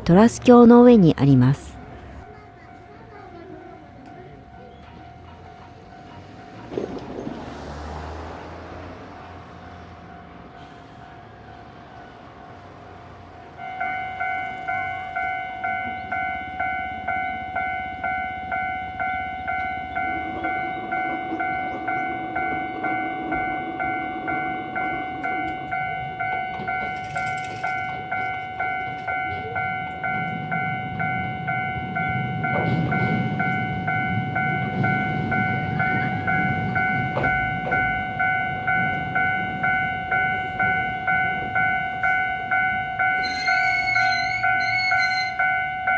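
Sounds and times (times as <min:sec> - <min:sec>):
level crossing warning bell: 0:00.0 - 0:45.9
train rumble: 0:00.0 - 0:45.9.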